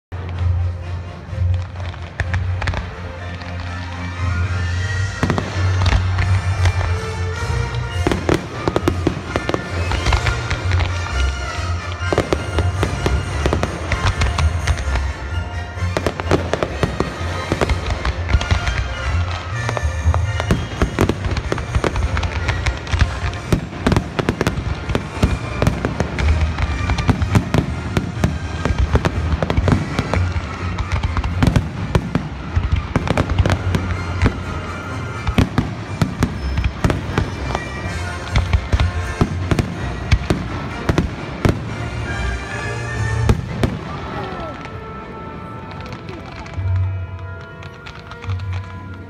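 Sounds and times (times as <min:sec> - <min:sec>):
fireworks bangs and crackling: 0:00.1 - 0:49.0
music playing: 0:00.1 - 0:49.0.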